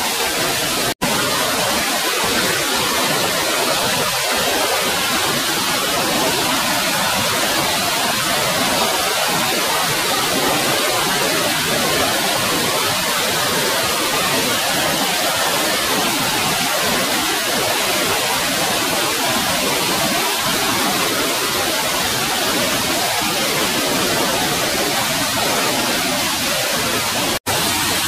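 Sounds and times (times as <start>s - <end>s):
stream rushing over boulders: 0.0s - 28.0s.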